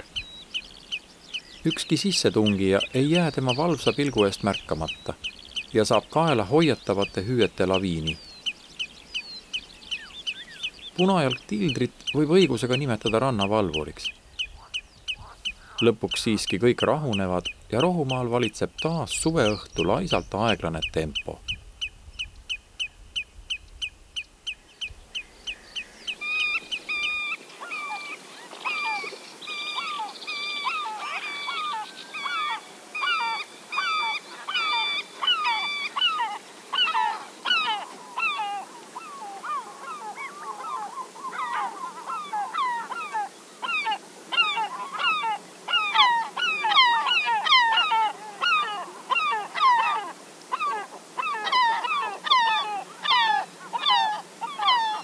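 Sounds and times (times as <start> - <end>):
flock of birds calling: 0.0 - 21.6, 23.8 - 55.0.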